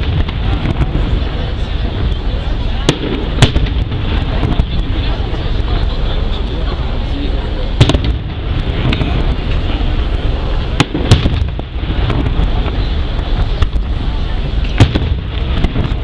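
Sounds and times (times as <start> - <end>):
fireworks bangs: 0.0 - 5.9, 7.7 - 16.0
low rumble: 0.0 - 16.0.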